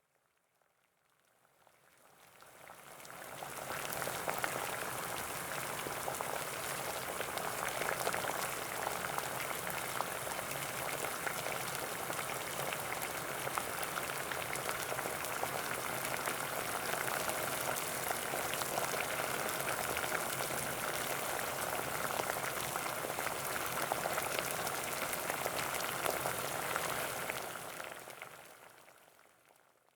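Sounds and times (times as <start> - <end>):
water boiling and bubbling: 2.2 - 29.2.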